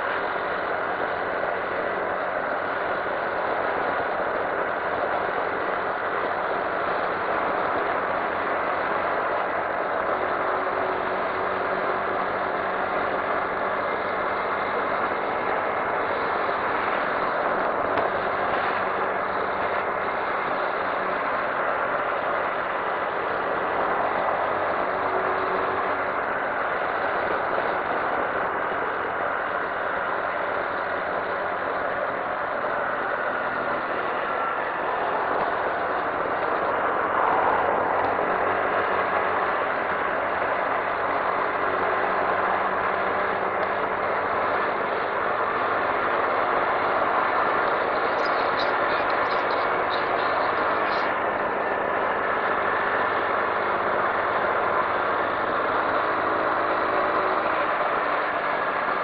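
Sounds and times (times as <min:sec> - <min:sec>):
road and air noise: 0:00.0 - 0:59.0
scooter engine cruising: 0:00.0 - 0:59.0.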